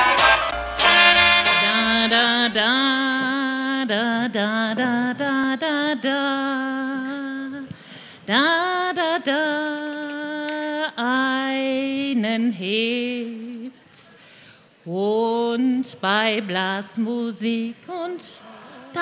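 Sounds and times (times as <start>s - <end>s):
woman singing unaccompanied: 1.4s - 14.1s, 14.8s - 19.0s.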